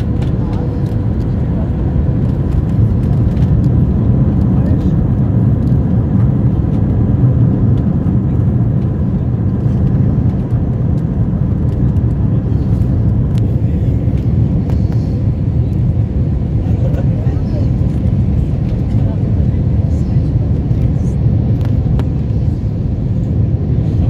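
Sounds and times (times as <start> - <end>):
jet engines and airflow roar: 0.0 - 24.0.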